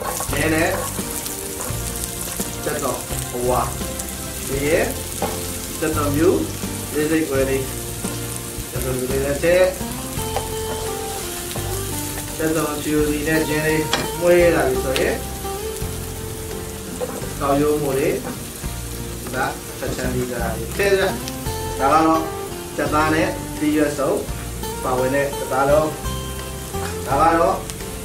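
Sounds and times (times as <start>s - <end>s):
wooden spatula stirring: 0.0s - 23.3s
onion sizzling in hot oil: 0.0s - 28.0s.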